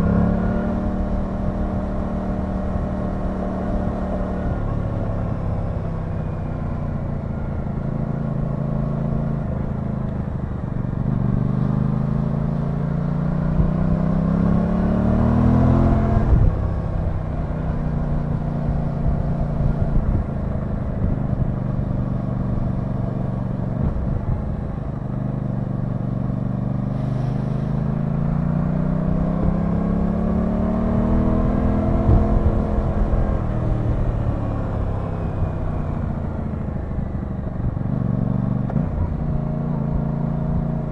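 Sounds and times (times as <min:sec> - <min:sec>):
motorcycle engine revving: 0:00.0 - 0:10.0, 0:10.8 - 0:40.9.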